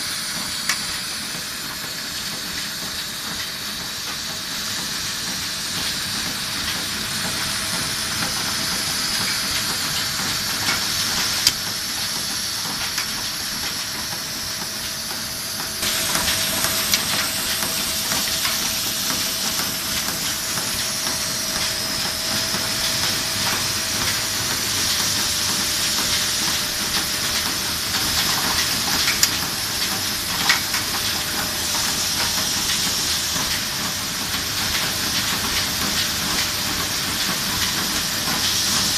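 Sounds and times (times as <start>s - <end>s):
reel machine hiss: 0.0s - 38.9s
vibrating tray rattling hiss: 0.0s - 38.9s.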